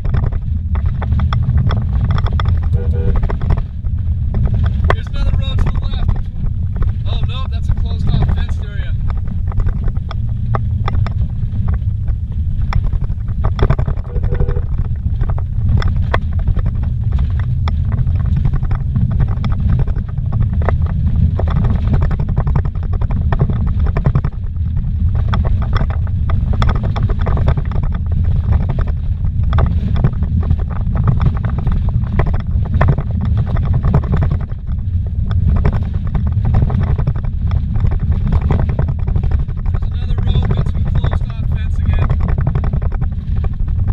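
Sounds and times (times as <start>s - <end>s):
car knocks and rattles: 0.0s - 43.9s
tyre and suspension rumble: 0.0s - 43.9s.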